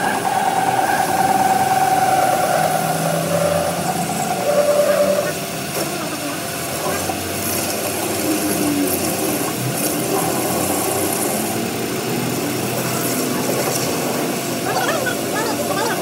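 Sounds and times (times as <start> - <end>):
high cutting hiss: 0.0 - 16.0
metal lathe running: 0.0 - 16.0.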